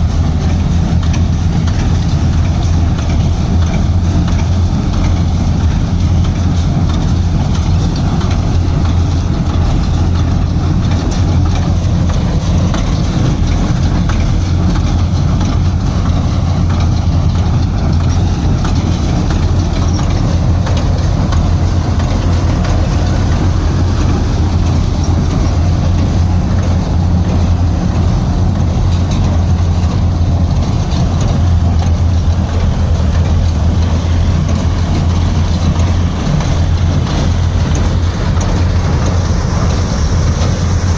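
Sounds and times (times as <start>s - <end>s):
machinery droning: 0.0s - 40.9s.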